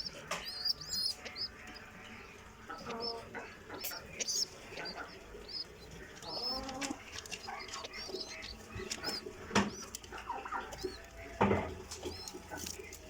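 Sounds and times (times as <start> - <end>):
high bird chirps: 0.0 - 11.4
pigeon cooing: 0.0 - 13.0.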